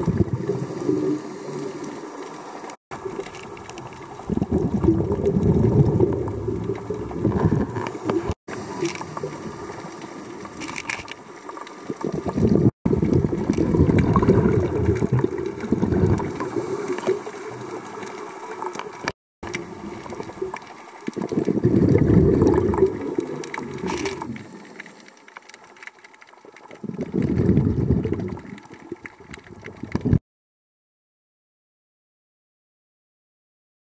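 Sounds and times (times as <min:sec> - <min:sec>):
underwater bubbles gurgling: 0:00.0 - 0:30.2.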